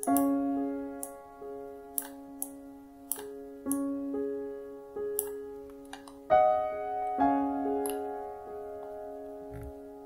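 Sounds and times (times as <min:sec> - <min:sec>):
loud keyboard chord: 0:00.0 - 0:10.0
sustained piano-like keyboard notes: 0:00.0 - 0:10.0.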